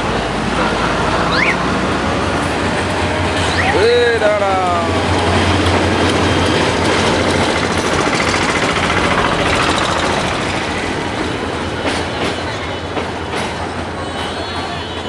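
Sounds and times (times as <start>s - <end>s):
sharp track clacks: 0.0s - 15.0s
train wheels rumbling on track: 0.0s - 15.0s.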